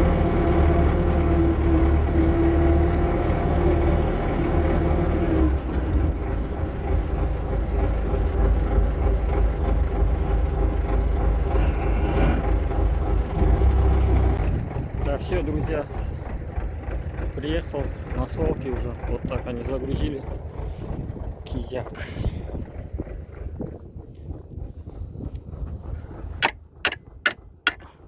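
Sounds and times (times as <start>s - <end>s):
tractor engine drone: 0.0s - 28.0s.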